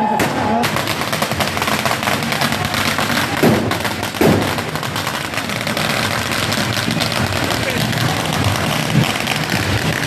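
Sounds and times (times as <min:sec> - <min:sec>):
loud firework bangs: 0:00.0 - 0:10.0
street crowd noise: 0:00.0 - 0:10.0.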